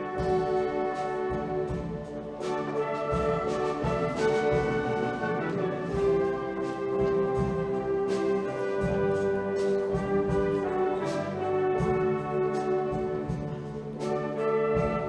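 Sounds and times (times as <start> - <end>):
brass-led band music: 0.0 - 15.0.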